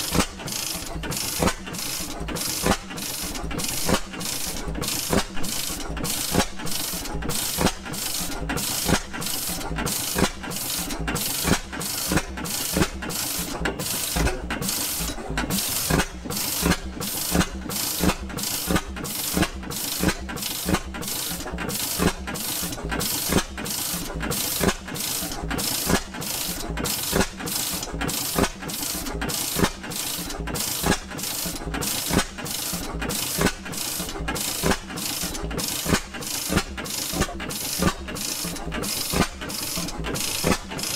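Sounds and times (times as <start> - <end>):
engine mechanical clatter: 0.0 - 40.9
old engine firing beats: 0.0 - 40.9.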